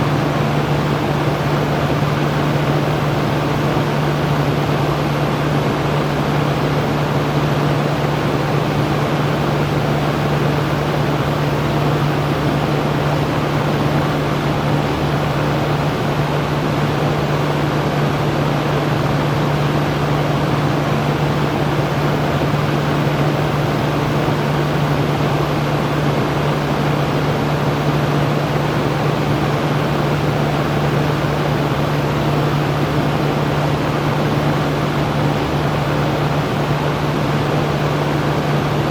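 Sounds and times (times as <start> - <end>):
electric fan running: 0.0 - 38.9.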